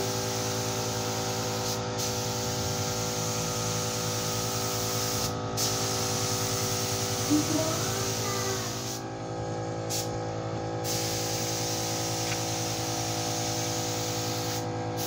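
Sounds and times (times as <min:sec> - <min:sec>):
paint spray gun hissing: 0:00.0 - 0:09.0, 0:09.9 - 0:10.2, 0:10.8 - 0:15.0
machine hum with low drone: 0:00.0 - 0:15.0.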